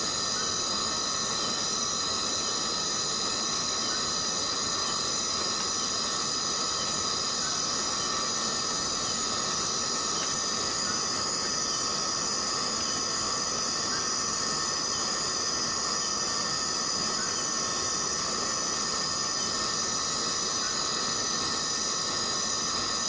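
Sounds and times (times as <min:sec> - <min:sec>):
rainforest insects droning: 0:00.0 - 0:23.0.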